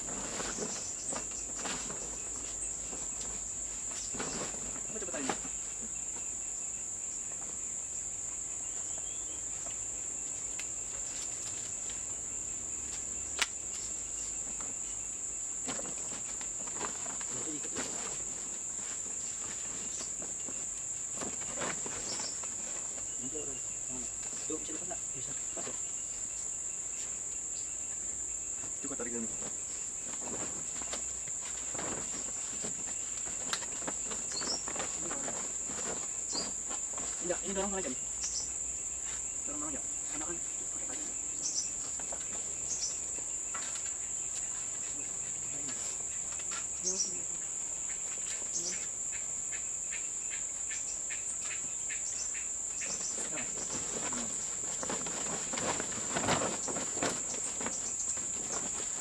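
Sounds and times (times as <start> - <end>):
wooden poles rustling and knocking: 0.0 - 6.5, 7.2 - 7.7, 8.7 - 48.9, 52.7 - 59.0
insects droning: 0.0 - 59.0.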